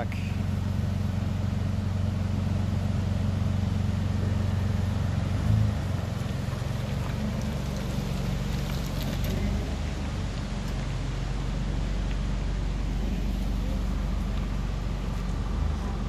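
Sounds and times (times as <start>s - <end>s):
vehicle engine running in mud: 0.0s - 16.0s.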